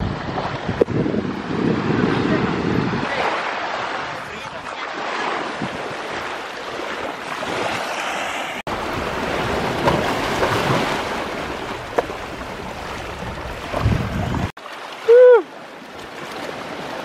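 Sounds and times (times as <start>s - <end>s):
wind on microphone: 0.0s - 7.8s, 8.7s - 14.5s
sea waves on sandy beach: 0.0s - 17.0s.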